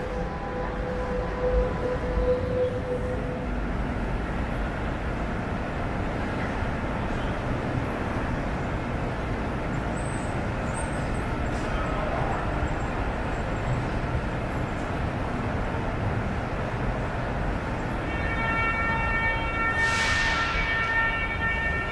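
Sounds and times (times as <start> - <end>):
metro train running: 0.0 - 21.9.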